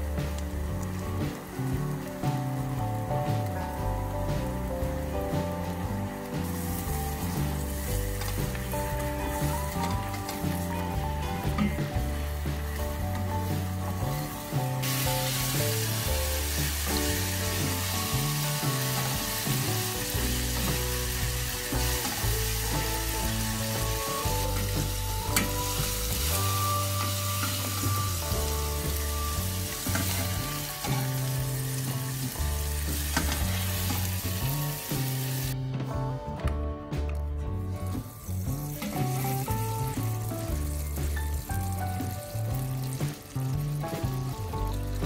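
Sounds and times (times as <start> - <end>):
beef sizzling in a pan: 0.0 - 35.6, 37.9 - 45.0
background music with bass: 0.0 - 45.0.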